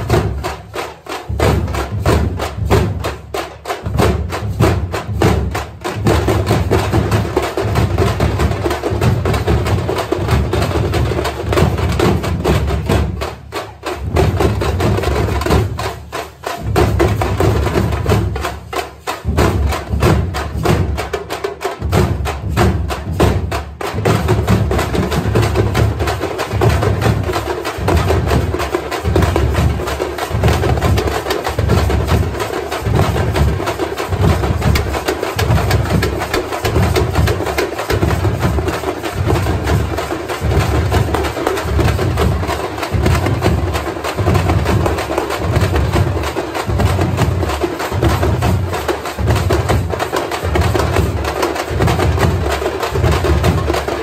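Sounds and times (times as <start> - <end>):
frame drums beating: 0.0 - 54.0.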